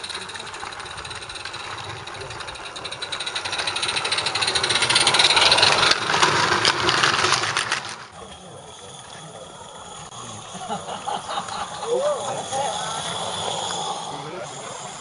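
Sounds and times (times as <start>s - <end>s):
model steam locomotive chuffing: 0.0s - 15.0s.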